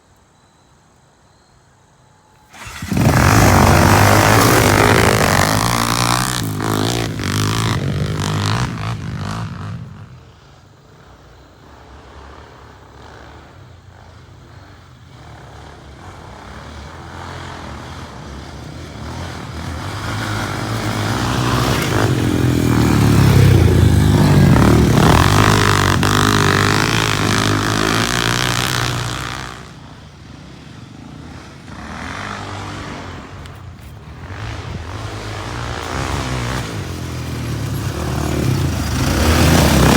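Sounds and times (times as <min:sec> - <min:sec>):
distant engines running: 0:02.4 - 0:39.9
racing engine passing at full throttle: 0:02.5 - 0:10.2, 0:15.5 - 0:39.9.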